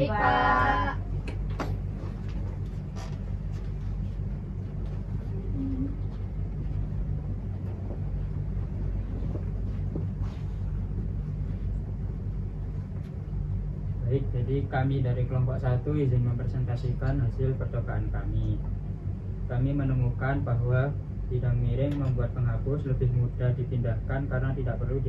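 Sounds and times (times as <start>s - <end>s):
low rumble and hum: 0.0s - 25.0s.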